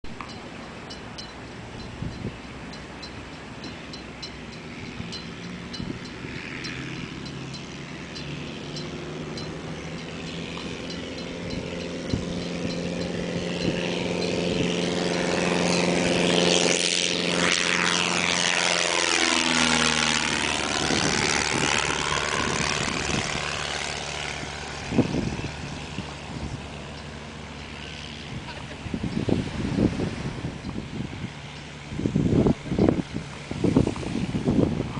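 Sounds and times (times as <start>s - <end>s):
propeller plane passing overhead: 0.0s - 34.9s.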